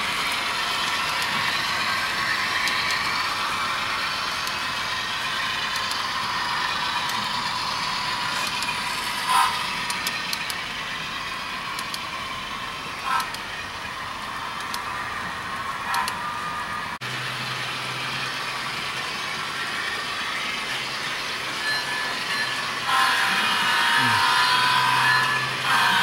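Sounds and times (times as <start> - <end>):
model trains whirring on track: 0.0 - 26.0.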